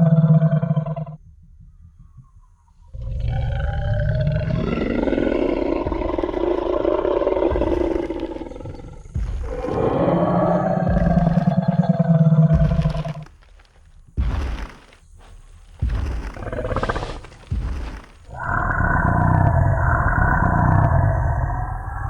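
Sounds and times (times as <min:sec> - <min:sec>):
dinosaur roar: 0:00.0 - 0:01.2, 0:02.9 - 0:13.3, 0:15.9 - 0:22.0.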